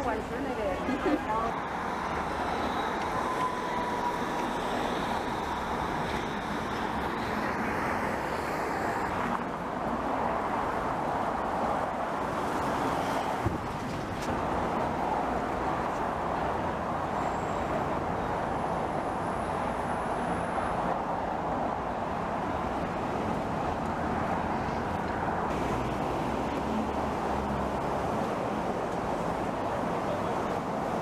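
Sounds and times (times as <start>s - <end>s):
steady traffic noise: 0.0s - 31.0s.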